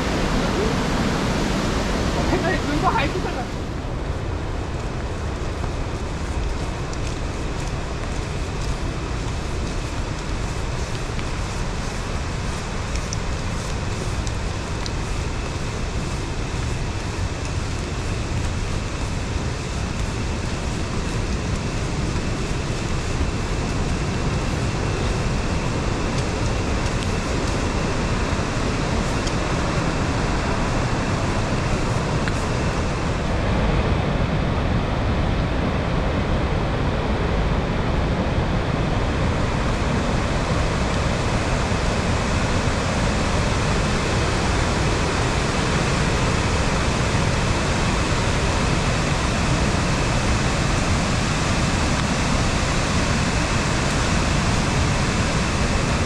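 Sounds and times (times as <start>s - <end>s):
fast stream rushing over rocks: 0.0s - 56.0s.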